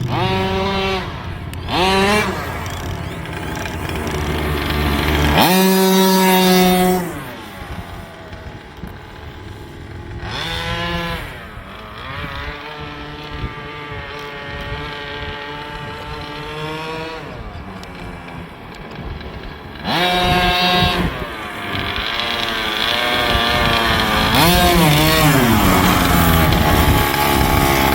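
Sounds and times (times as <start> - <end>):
small engine revving: 0.0 - 27.9.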